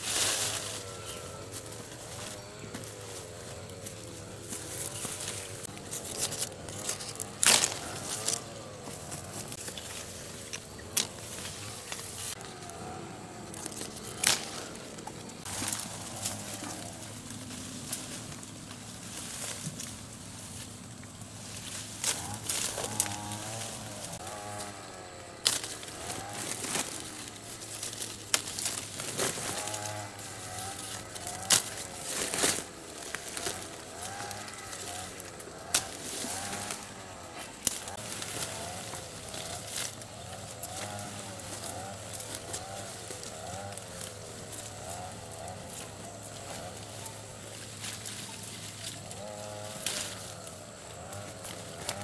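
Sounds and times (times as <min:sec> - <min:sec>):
leaves rustling: 0:00.0 - 0:52.0
pruning shears snipping stems: 0:03.8 - 0:12.8, 0:13.5 - 0:20.0, 0:21.6 - 0:47.1, 0:47.8 - 0:52.0.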